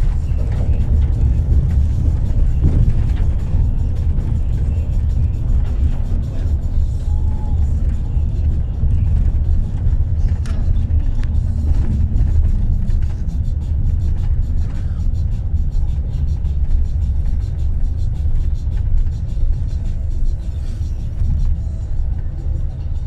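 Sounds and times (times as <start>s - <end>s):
vehicle rumble inside cabin: 0.0s - 23.0s.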